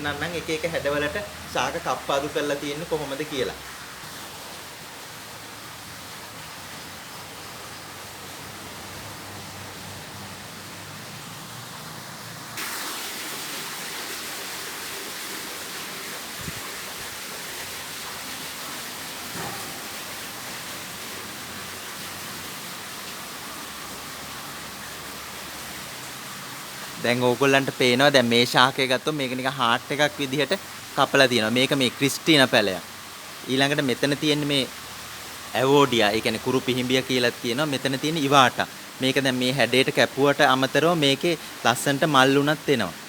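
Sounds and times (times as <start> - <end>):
steady rushing hiss: 0.0 - 43.0.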